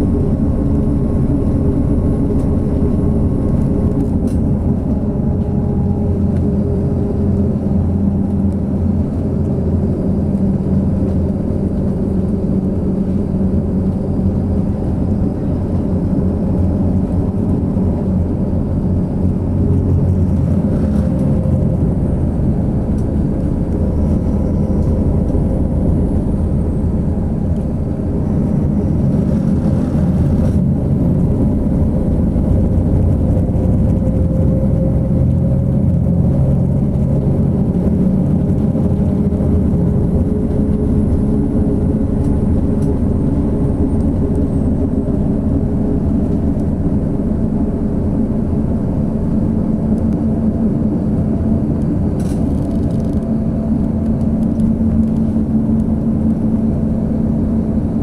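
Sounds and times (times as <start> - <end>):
engine and tyre drone: 0.0 - 58.0.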